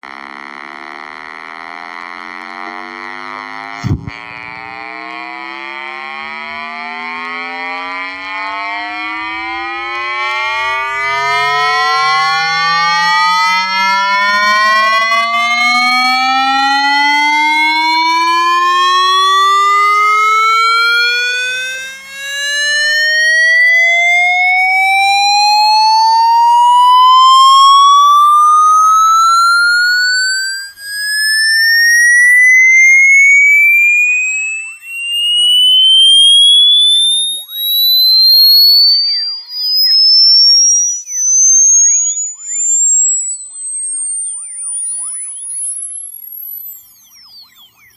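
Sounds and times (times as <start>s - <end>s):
electronic buzzing tone rising in pitch: 0.0s - 47.9s.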